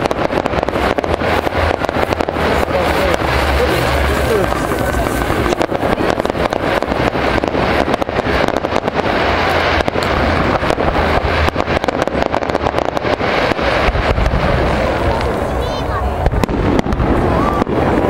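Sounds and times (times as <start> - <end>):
fireworks cracking and popping: 0.0 - 18.0
low rumble: 0.0 - 18.0.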